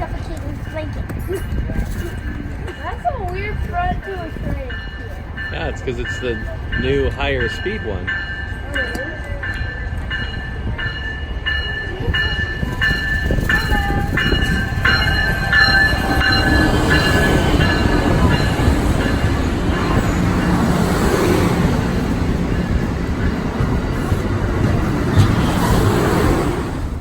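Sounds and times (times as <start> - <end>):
train bell ringing: 0.0 - 26.2
train rumbling past: 0.0 - 27.0.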